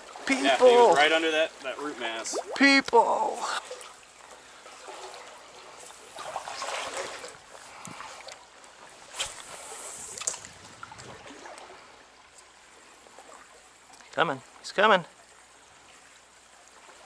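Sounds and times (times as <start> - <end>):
stream running: 0.0 - 17.0
water splashing: 0.0 - 17.0.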